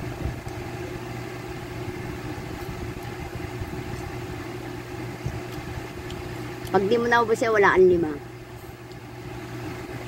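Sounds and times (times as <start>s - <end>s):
electric fan hum and whir: 0.0s - 10.0s.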